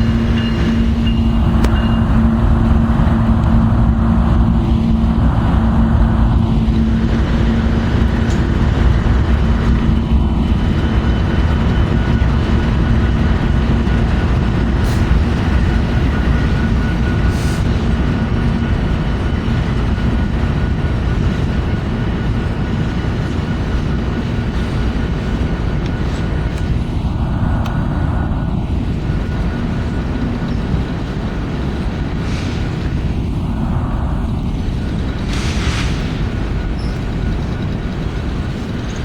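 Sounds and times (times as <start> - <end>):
low engine-like tone: 0.0 - 39.0
train wheels rumbling on rails: 0.0 - 39.0.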